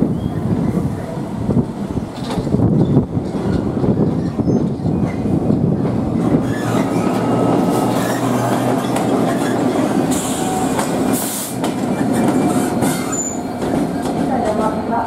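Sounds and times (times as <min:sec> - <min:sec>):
diesel locomotive engine hum: 0:00.0 - 0:15.0
passenger train wheels passing: 0:00.0 - 0:15.0
train wheels clattering on rails: 0:02.0 - 0:14.8.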